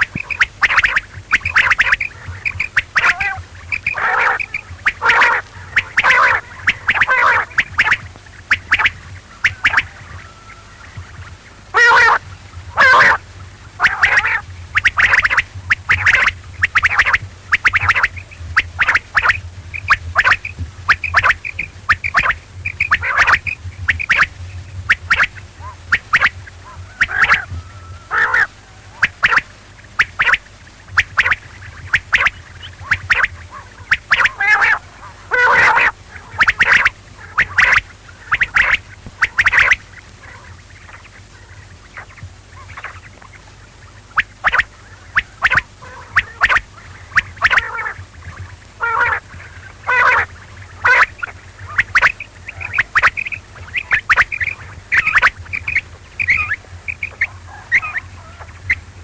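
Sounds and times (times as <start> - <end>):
low steady hum: 0.0 - 59.0
quail calling: 0.0 - 59.0.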